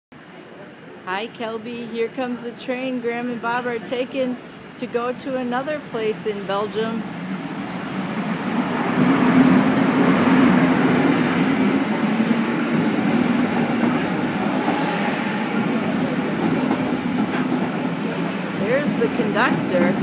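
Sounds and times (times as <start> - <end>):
train rolling past: 0.2 - 20.0
low locomotive hum: 2.6 - 20.0.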